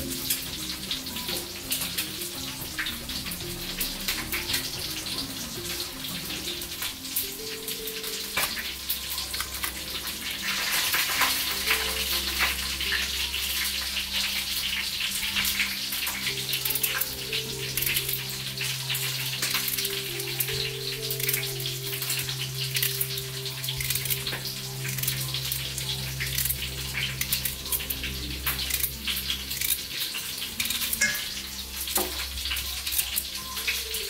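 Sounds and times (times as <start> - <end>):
crackling water with splashes: 0.0 - 34.0
quiet background music: 0.0 - 34.0.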